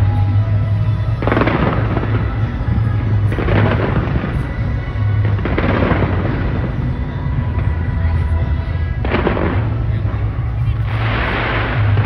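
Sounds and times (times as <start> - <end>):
background music: 0.0 - 12.0
fireworks booming: 0.0 - 12.0
fireworks crackling: 0.0 - 12.0.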